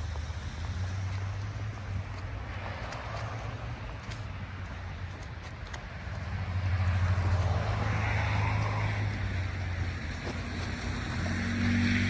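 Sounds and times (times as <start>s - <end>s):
tyre hiss on wet road: 0.0s - 4.2s, 6.4s - 12.0s
low engine hum: 0.0s - 12.0s.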